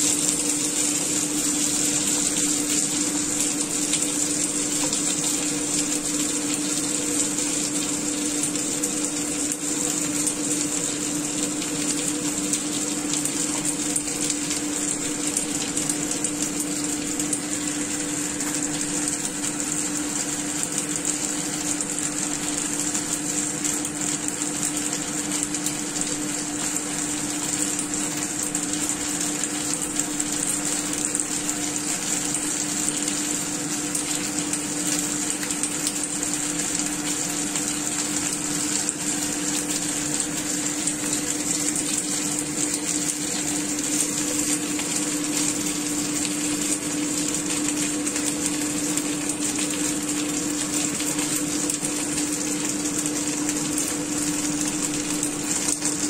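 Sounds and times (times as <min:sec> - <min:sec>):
dumplings sizzling in oil: 0:00.0 - 0:56.0.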